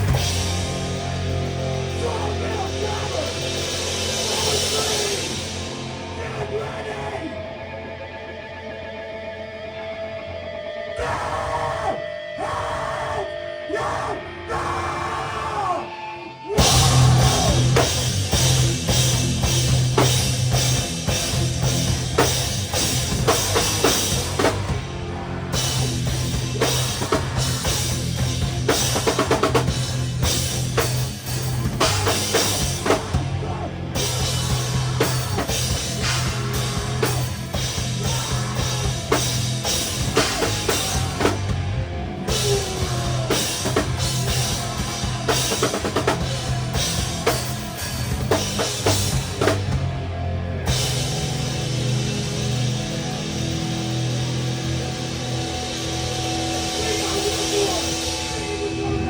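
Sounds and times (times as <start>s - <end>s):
live heavy rock band: 0.0s - 59.0s.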